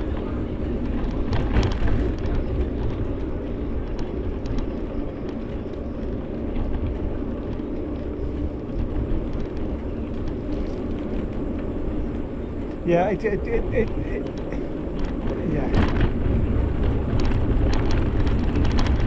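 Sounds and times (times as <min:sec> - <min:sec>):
bicycle road noise: 0:00.0 - 0:19.0
wind buffeting microphone: 0:00.0 - 0:19.0.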